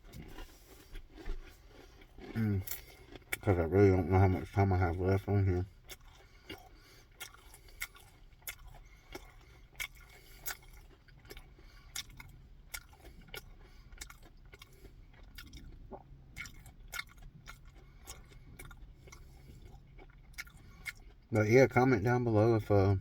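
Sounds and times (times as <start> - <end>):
person chewing crunchy food: 0.0 - 21.5.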